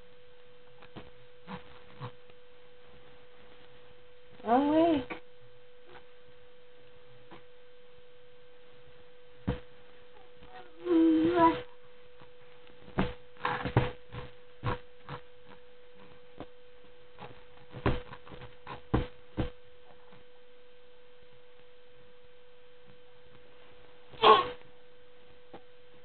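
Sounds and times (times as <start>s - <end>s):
steady mid-pitched hum: 0.0s - 26.0s.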